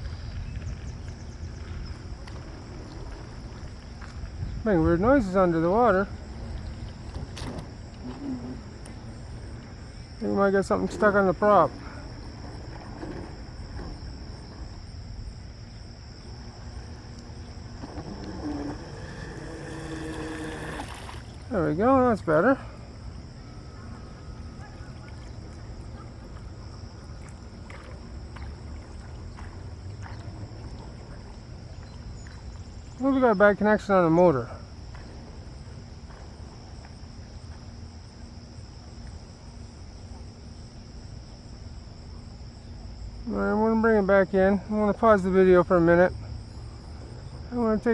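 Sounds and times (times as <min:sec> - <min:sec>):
wind rumbling on microphone: 0:00.0 - 0:43.2
insects droning: 0:00.0 - 0:47.9.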